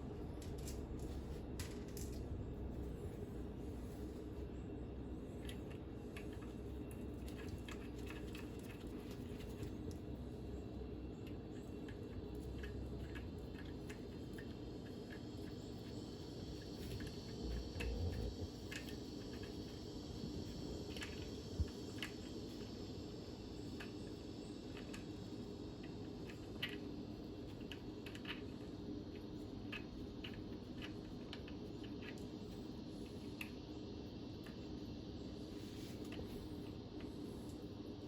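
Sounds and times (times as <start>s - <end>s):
background hum: 0.0s - 38.0s.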